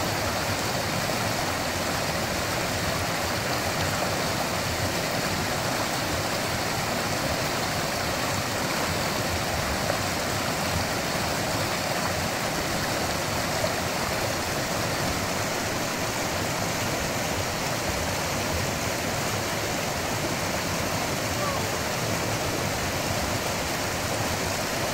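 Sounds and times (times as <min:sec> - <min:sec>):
mountain stream rushing: 0:00.0 - 0:24.9.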